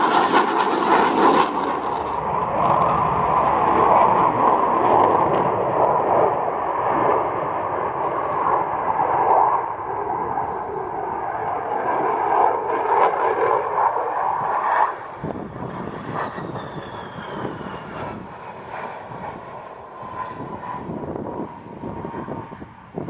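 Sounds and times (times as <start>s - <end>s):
jet engine passing: 0.0s - 23.0s.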